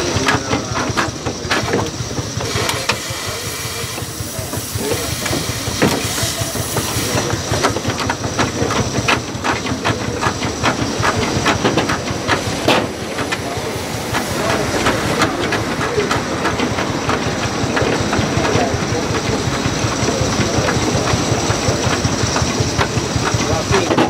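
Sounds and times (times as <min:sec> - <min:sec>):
steam engine exhaust beats: 0:00.0 - 0:24.0
steam hissing: 0:00.0 - 0:24.0.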